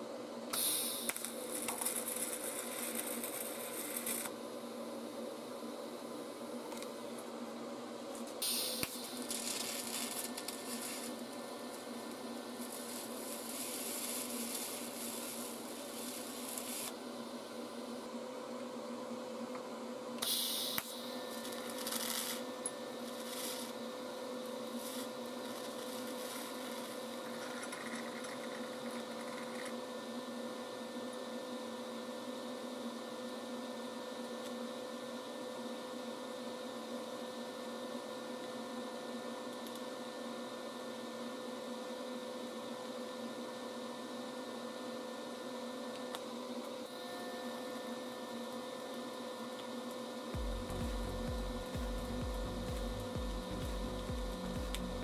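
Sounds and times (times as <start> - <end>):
small machine humming: 0.0 - 55.0.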